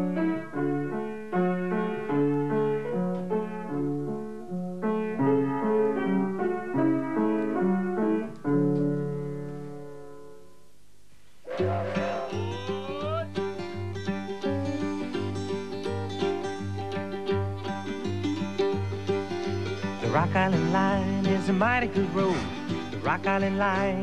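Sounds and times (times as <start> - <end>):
piano melody over chords: 0.0 - 10.8, 12.4 - 24.0.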